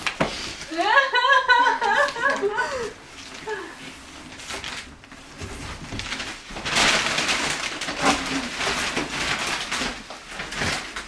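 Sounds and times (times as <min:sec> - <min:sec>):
tissue paper and cardboard rustling: 0:00.0 - 0:11.0.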